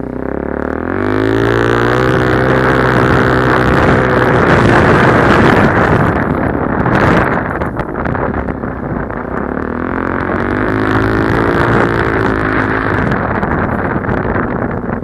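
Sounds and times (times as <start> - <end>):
dirt bike engine revving: 0.0 - 14.7
wind rushing over microphone: 0.0 - 15.0.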